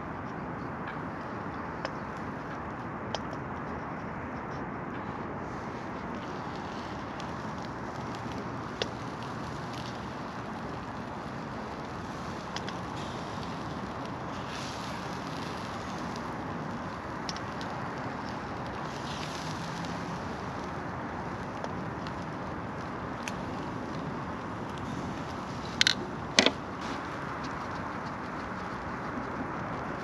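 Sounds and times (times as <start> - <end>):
rushing outdoor background noise: 0.0 - 30.0.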